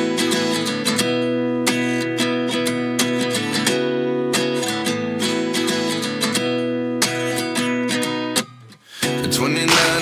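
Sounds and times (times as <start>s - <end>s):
strummed guitar chords: 0.0s - 10.0s.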